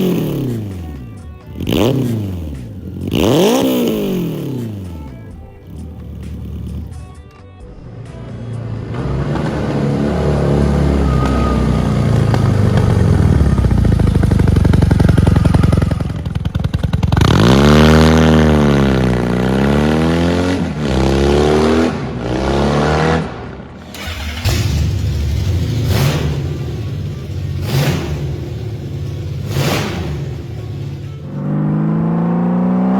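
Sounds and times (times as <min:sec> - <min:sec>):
motorcycle engine revving: 0:00.0 - 0:07.1, 0:08.8 - 0:32.9.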